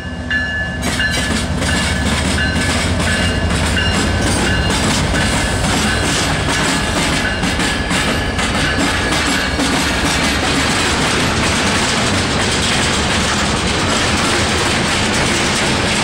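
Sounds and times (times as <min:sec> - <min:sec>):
train wheels on rails: 0:00.0 - 0:16.0
wheels clicking over rail joints: 0:00.8 - 0:16.0.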